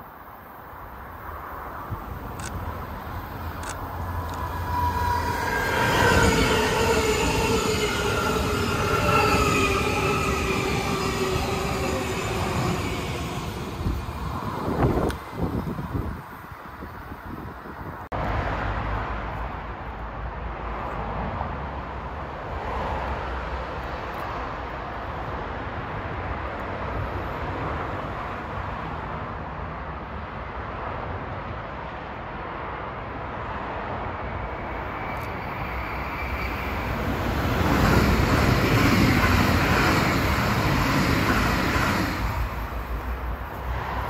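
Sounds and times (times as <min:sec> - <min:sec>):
train rumbling past on tracks: 0:00.0 - 0:44.0.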